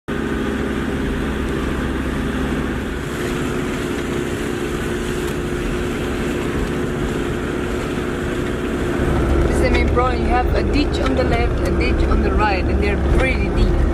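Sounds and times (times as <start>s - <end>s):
vehicle engine running at low revs: 0.1s - 13.9s.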